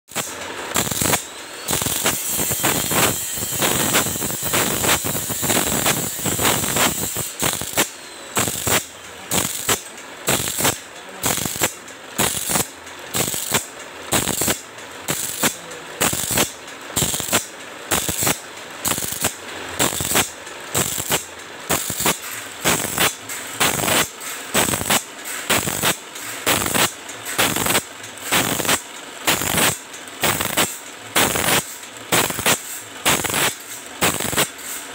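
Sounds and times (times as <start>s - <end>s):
sharpening machine grinding saw teeth: 0.1s - 34.9s.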